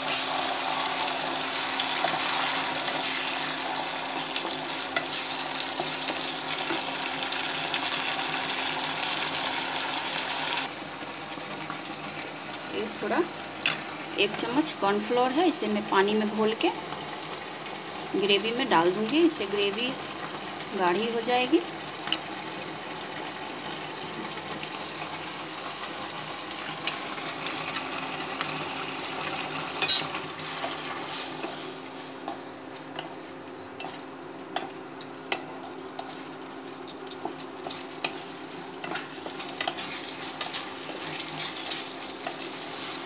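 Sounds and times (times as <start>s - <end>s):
gravy sizzling in a wok: 0.0s - 43.0s.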